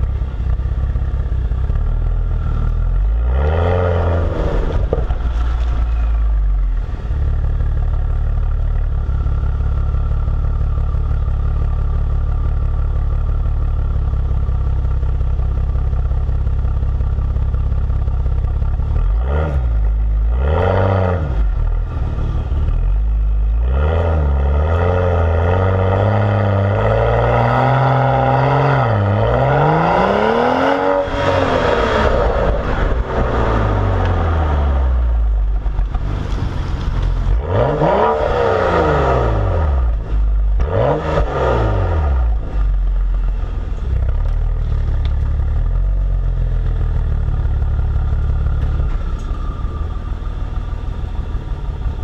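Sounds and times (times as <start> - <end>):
car exhaust drone revving: 0.0 - 52.0.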